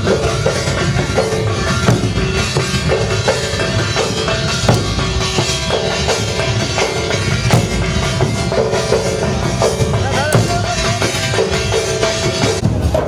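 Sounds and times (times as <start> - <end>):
drums beating a dense rhythm: 0.0 - 13.0.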